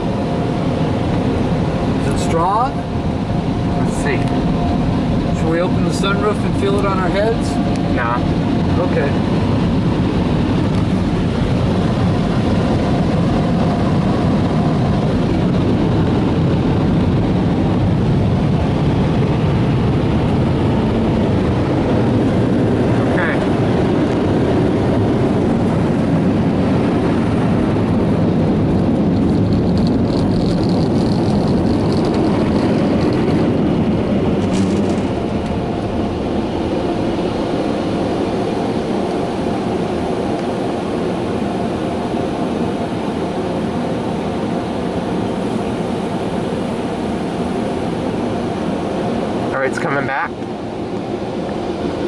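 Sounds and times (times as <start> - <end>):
car wash dryer blowers: 0.0 - 52.0.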